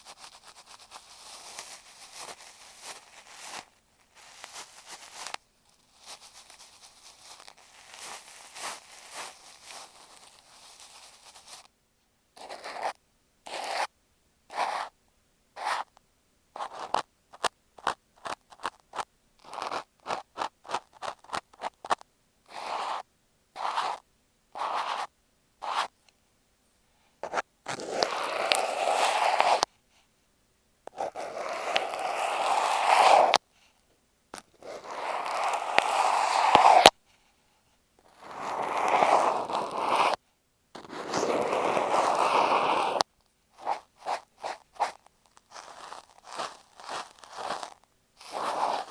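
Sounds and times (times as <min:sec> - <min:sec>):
cotton swab scratching microphone: 0:00.0 - 0:11.7, 0:12.4 - 0:13.9, 0:14.5 - 0:15.0, 0:15.6 - 0:15.9, 0:16.6 - 0:26.0, 0:27.2 - 0:29.7, 0:30.9 - 0:33.4, 0:34.4 - 0:37.0, 0:38.1 - 0:40.2, 0:40.8 - 0:48.9.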